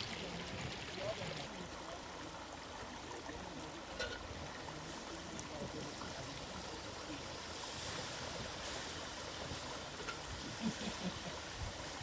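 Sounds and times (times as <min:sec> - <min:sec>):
flowing water hiss: 0:00.0 - 0:12.0.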